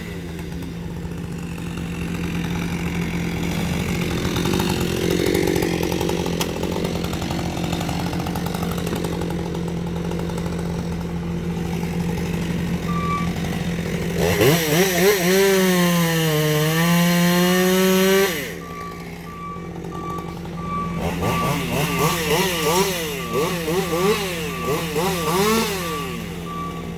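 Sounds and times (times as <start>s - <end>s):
chainsaw revving and cutting: 0.0s - 26.9s.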